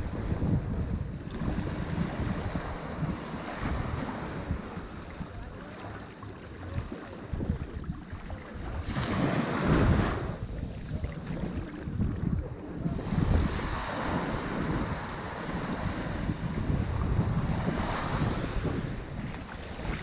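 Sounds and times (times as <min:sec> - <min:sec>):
ocean waves washing onto shore: 0:00.0 - 0:20.0.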